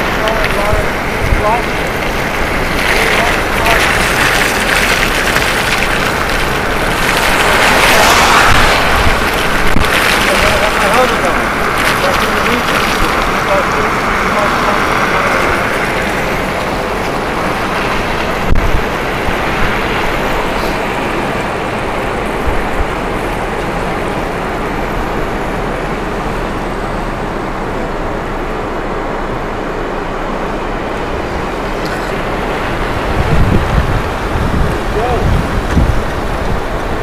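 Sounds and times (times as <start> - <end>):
wind noise on microphone: 0.0 - 37.0.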